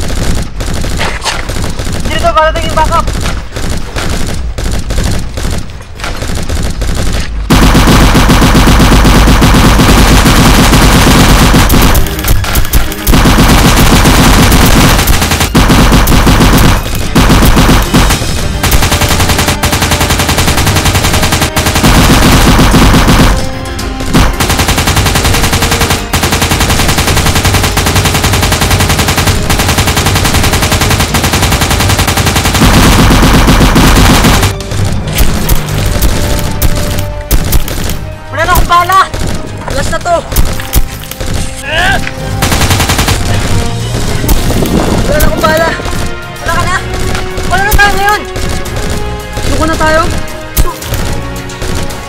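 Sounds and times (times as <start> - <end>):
machine-gun fire: 0.0 - 41.5, 42.3 - 52.0.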